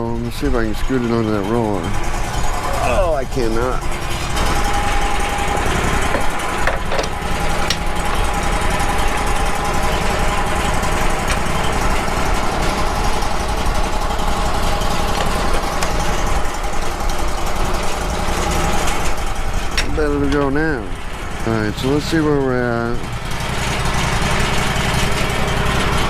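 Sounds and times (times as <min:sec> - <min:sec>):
sawmill engine idling: 0:00.0 - 0:26.0
steady whine: 0:00.0 - 0:26.0.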